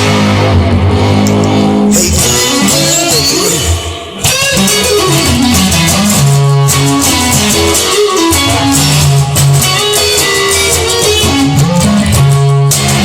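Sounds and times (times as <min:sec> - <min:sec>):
guitar-led instrumental music: 0:00.0 - 0:13.0.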